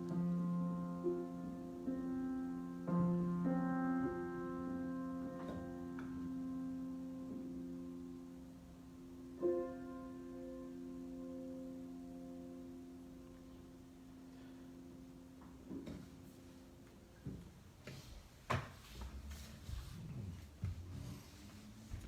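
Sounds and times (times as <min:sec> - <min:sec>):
solo piano chords: 0:00.0 - 0:17.8.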